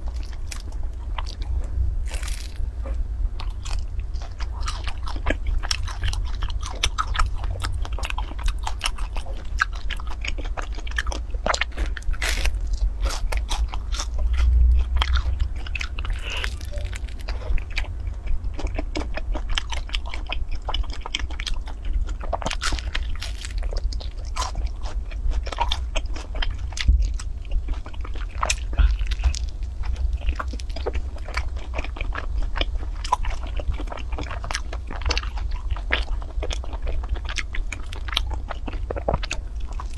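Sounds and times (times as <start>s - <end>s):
biting and chewing: 0.0s - 39.9s
steady low hum: 0.0s - 39.9s.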